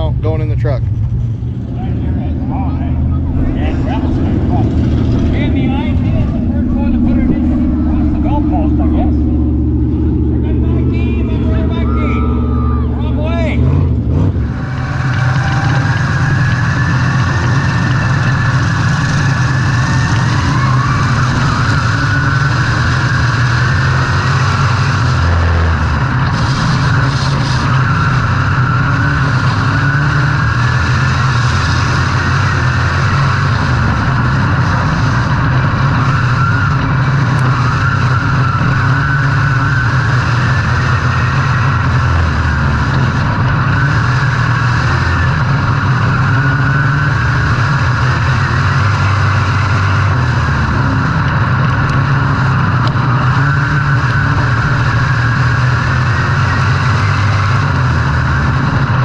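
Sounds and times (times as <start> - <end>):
race vehicle engine revving: 0.0 - 59.0.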